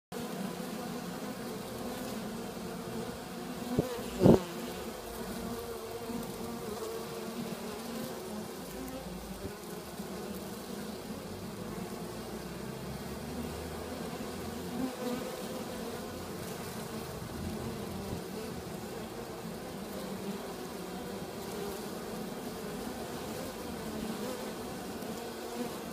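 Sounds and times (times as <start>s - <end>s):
honeybees buzzing: 0.2s - 25.9s.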